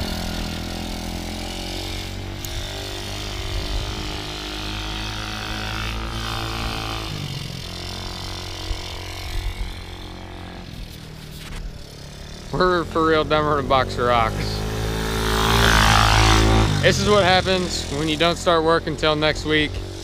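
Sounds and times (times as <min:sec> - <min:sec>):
moped engine running: 0:00.0 - 0:20.0.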